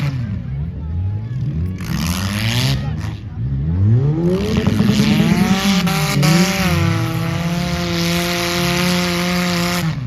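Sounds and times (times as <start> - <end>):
car engine revving hard: 1.7 - 10.0.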